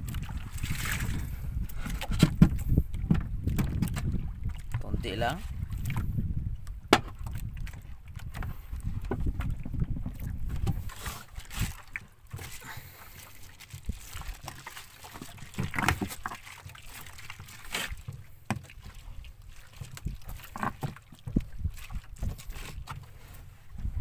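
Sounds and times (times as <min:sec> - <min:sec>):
squid splashing and squelching: 0:00.0 - 0:04.8, 0:05.4 - 0:23.4.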